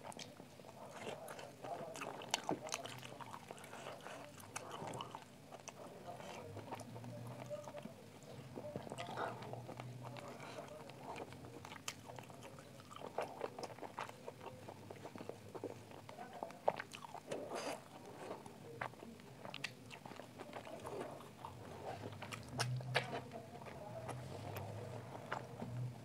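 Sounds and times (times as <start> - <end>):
chewing with wet mouth clicks: 0.0 - 25.9.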